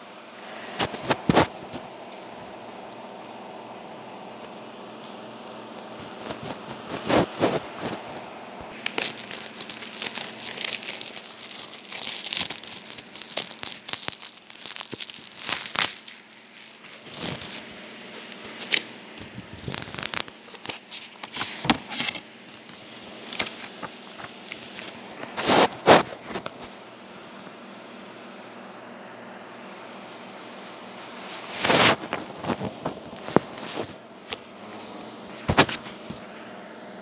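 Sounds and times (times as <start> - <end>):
plastic shrink-wrap crinkling: 0.4 - 1.9, 4.3 - 26.7, 29.8 - 36.3.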